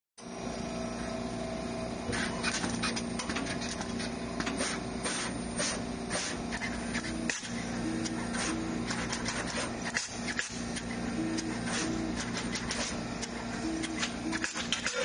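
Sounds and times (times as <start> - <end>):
machine humming: 0.2 - 15.0.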